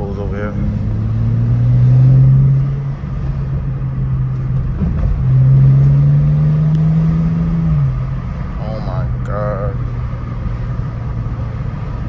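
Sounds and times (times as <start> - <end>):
car engine and exhaust accelerating: 0.0 - 12.0.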